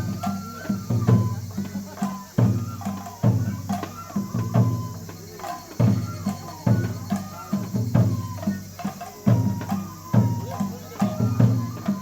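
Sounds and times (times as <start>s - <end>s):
bamboo flute long notes: 0.0s - 12.0s
taiko drums beating: 0.0s - 12.0s.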